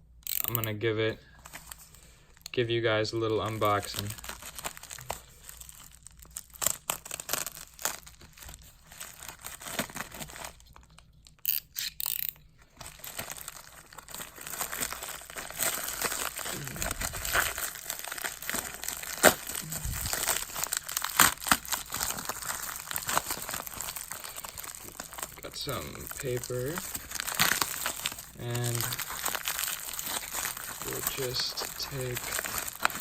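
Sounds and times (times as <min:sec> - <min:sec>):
packaging tearing and crinkling: 0:03.3 - 0:11.4, 0:12.6 - 0:33.0.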